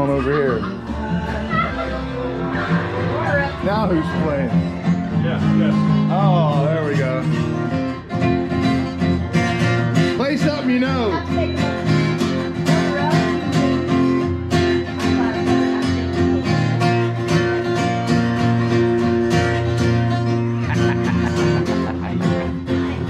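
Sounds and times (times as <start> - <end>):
acoustic guitar strummed and picked: 0.0 - 23.0.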